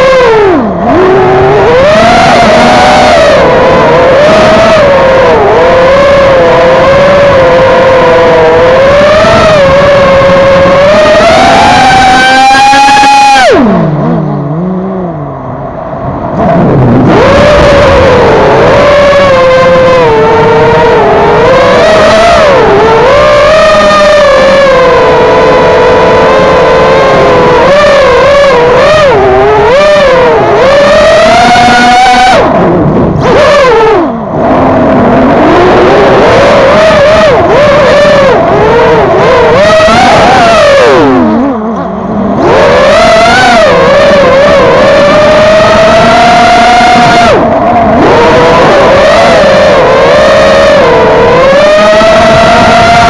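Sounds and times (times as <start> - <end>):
racing drone motors whining: 0.0 - 53.0.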